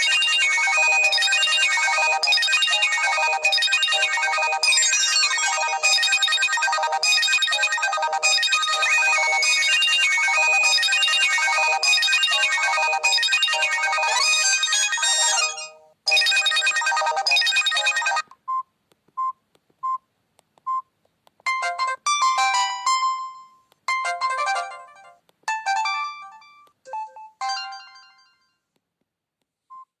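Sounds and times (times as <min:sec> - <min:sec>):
busy phone melody: 0:00.0 - 0:18.2, 0:21.5 - 0:28.5.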